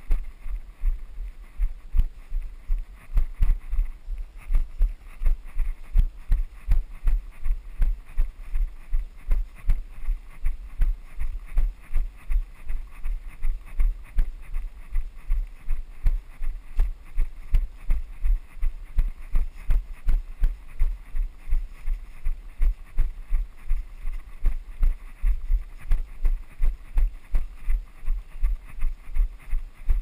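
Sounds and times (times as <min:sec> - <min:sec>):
running footsteps on dirt: 0:00.0 - 0:30.0.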